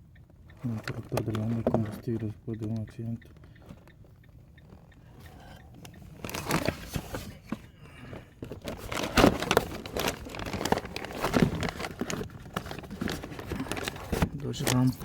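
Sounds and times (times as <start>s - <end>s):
crinkling handling noises: 0.6s - 15.0s.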